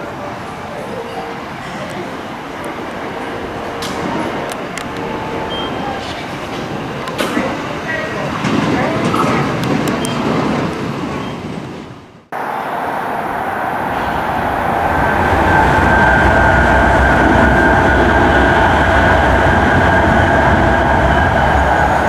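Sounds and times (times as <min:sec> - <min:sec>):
train whine: 0:00.0 - 0:08.2, 0:12.3 - 0:22.0
electric train arriving: 0:00.0 - 0:11.6, 0:12.3 - 0:22.0.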